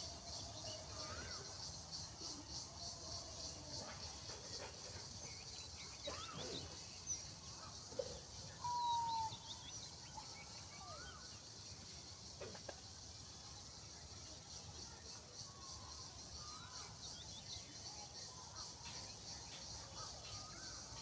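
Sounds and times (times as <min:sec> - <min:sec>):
high hiss of insects: 0:00.0 - 0:21.0.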